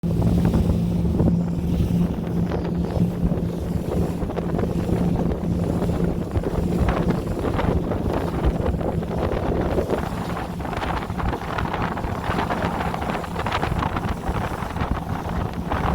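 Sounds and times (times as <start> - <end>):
boat engine droning: 0.0 - 15.9
water rushing past hull: 0.0 - 15.9
wind buffeting microphone: 0.0 - 15.9.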